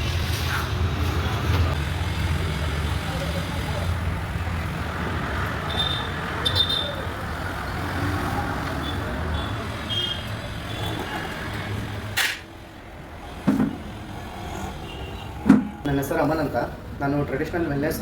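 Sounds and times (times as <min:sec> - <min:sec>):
passing vehicles rumble: 0:00.0 - 0:18.0.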